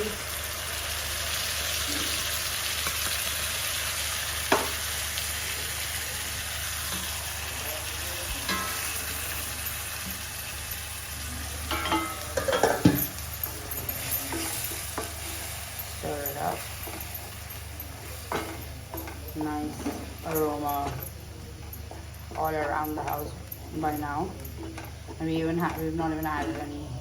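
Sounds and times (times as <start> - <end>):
onion paste sizzling in oil: 0.0 - 25.4.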